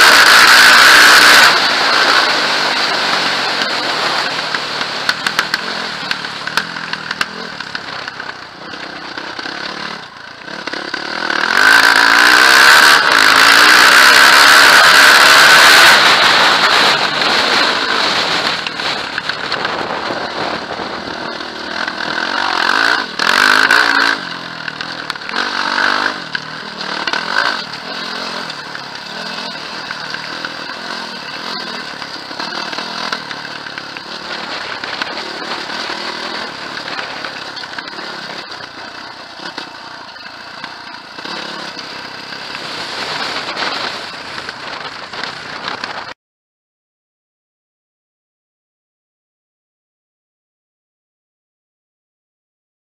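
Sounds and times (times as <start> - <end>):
quad bike engine revving: 0.0 - 46.2.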